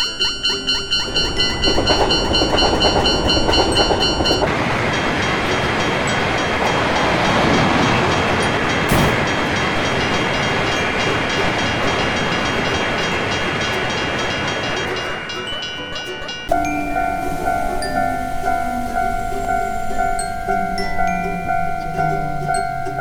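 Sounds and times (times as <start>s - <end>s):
railroad crossing bell ringing: 0.0s - 23.0s
train passing: 0.0s - 23.0s.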